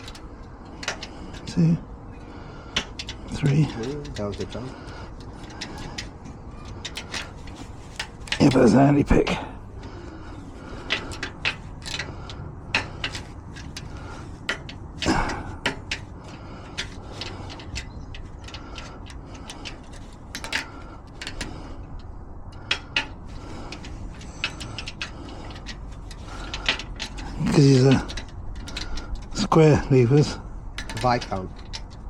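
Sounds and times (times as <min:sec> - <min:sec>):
low steady background noise: 0:00.0 - 0:32.0.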